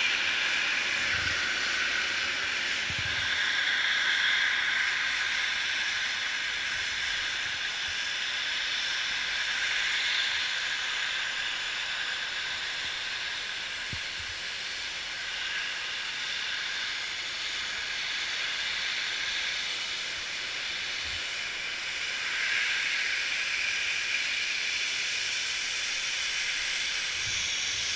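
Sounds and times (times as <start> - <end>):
snowmaking guns spraying hiss: 0.0 - 27.9.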